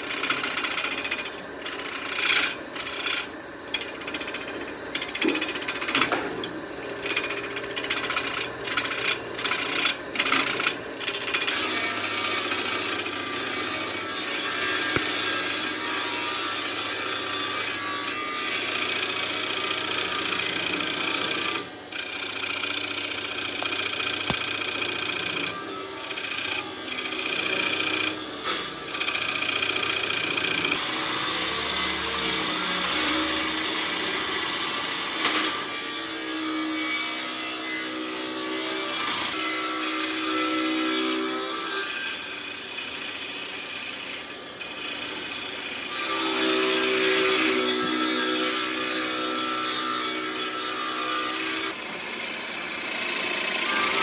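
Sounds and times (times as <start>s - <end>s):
power tool working wood: 0.0s - 54.0s.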